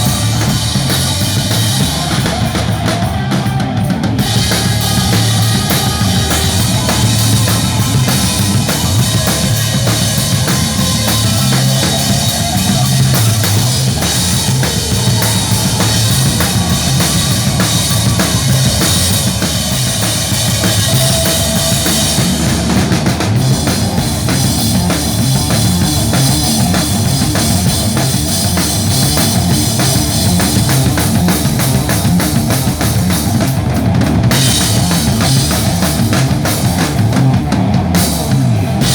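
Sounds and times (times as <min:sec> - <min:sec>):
band playing: 0:00.0 - 0:38.9
drum kit kick and snare: 0:00.0 - 0:38.9.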